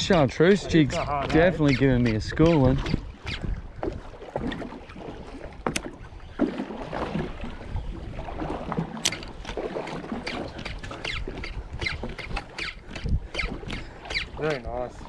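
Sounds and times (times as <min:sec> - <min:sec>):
water lapping against boat hull: 0:00.0 - 0:15.0
wind on microphone: 0:00.0 - 0:15.0.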